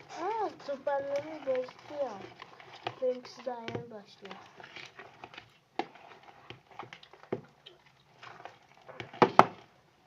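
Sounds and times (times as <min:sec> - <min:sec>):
slime squelching in a bowl: 0:00.0 - 0:09.8.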